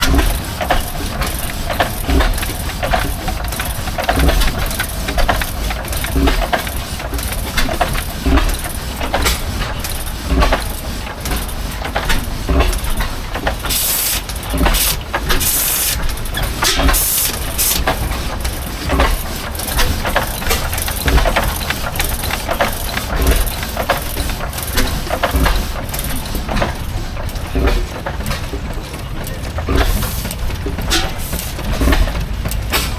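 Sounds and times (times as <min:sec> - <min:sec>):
old machinery rumbling and knocking: 0:00.0 - 0:32.9.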